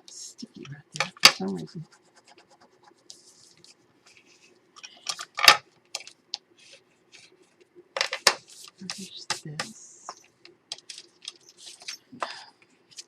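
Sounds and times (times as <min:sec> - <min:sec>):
paper rustling and scratching: 0:01.0 - 0:05.3, 0:06.0 - 0:12.1.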